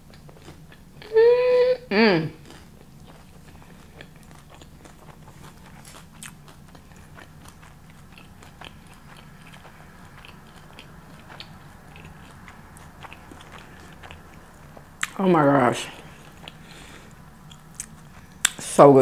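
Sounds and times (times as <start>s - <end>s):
person chewing crunchy food: 0.0s - 1.0s, 2.4s - 15.2s, 15.9s - 18.6s
steady low hum: 0.0s - 19.0s.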